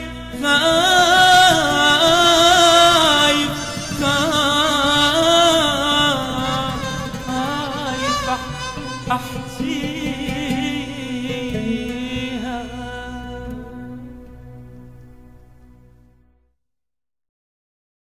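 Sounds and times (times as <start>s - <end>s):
low drone: 0.0s - 16.4s
ornamented wavering melody: 0.0s - 16.4s.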